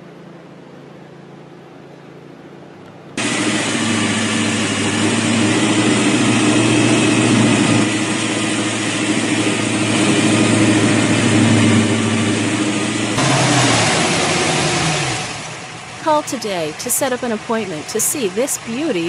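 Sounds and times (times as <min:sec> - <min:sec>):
car engine idling: 0:03.2 - 0:19.0.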